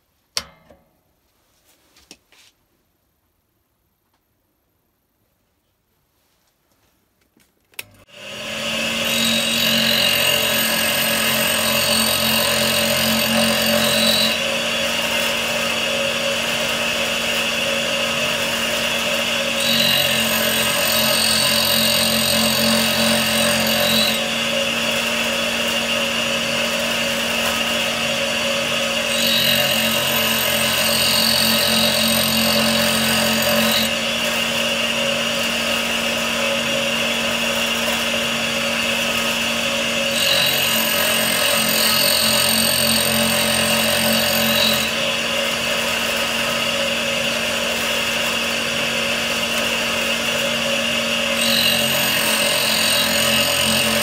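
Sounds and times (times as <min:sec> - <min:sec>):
tool grinder grinding: 0:08.0 - 0:54.0.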